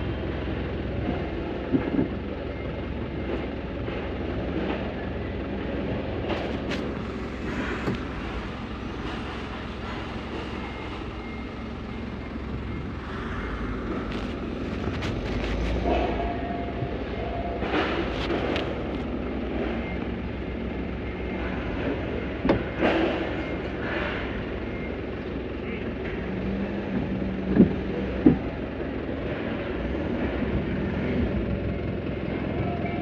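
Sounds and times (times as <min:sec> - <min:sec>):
truck engine rumbling: 0:00.0 - 0:33.0.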